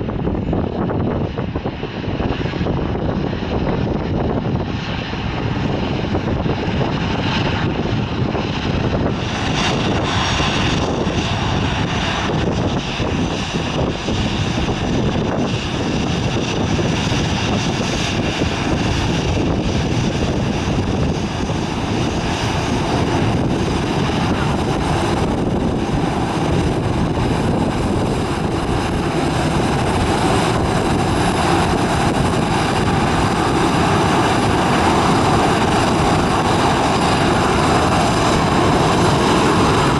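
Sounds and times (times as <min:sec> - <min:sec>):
jet engines whining: 0:00.0 - 0:39.9
wind buffeting microphone: 0:00.0 - 0:39.9.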